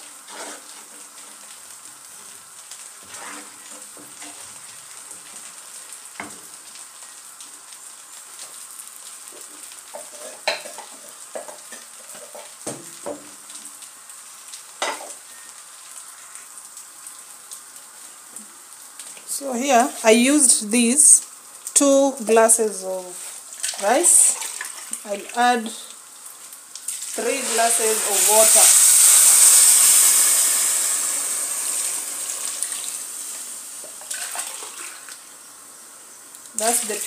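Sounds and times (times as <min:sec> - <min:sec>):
sauce bubbling in pan: 0:00.0 - 0:19.3, 0:23.4 - 0:37.0
rice frying in oil sizzle: 0:00.0 - 0:37.0.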